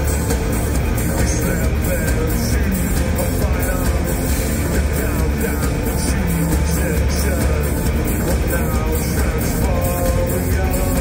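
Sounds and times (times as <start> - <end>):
driving beat with heavy bass: 0.0 - 11.0
industrial band playing: 0.0 - 11.0
singer's voice: 0.0 - 11.0.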